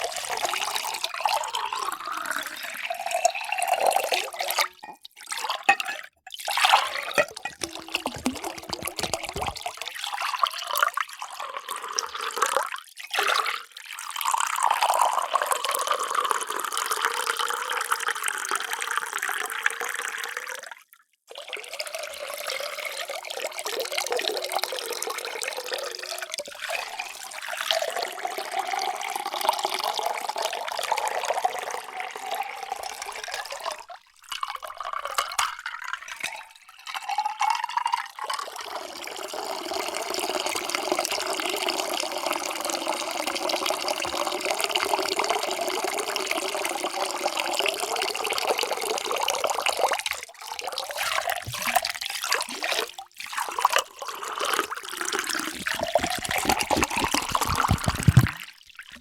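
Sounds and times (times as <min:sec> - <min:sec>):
water pouring into a vessel: 0:00.0 - 0:59.0.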